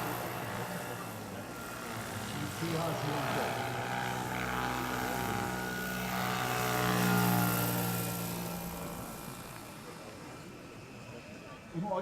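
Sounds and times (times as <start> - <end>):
model helicopter rotors humming: 0.0 - 12.0.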